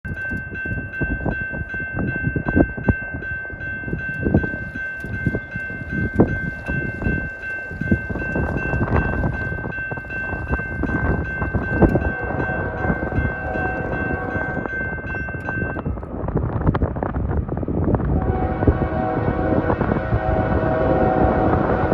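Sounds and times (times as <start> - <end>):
freight train wheels clattering: 0.0 - 21.9.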